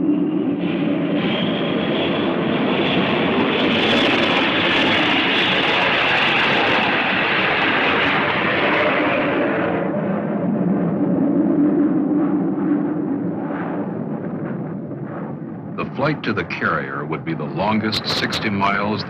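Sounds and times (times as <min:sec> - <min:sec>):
jet engine whine: 0:00.0 - 0:19.0.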